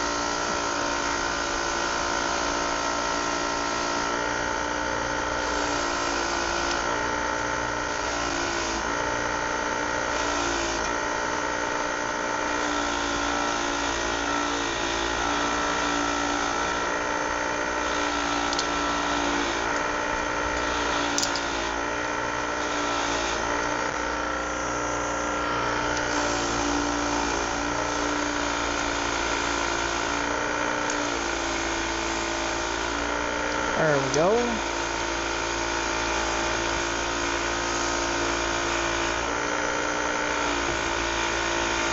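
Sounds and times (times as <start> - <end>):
motor whining steadily: 0.0 - 41.9.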